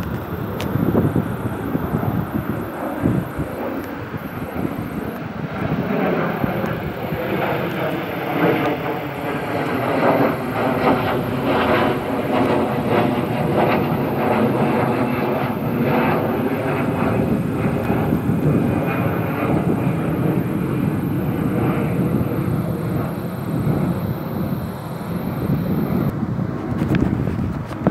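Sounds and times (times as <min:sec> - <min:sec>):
jet engine roar: 0:00.0 - 0:27.9.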